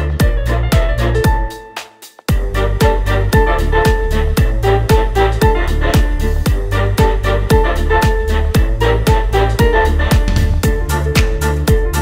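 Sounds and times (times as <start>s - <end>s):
kick drum beat: 0.0s - 12.0s.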